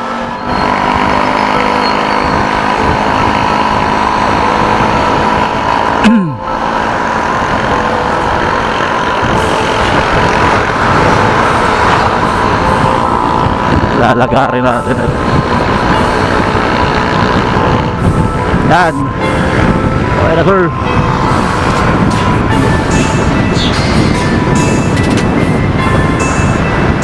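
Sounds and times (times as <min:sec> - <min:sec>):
motorcycle engine: 0:00.0 - 0:27.0
wind noise: 0:00.0 - 0:27.0.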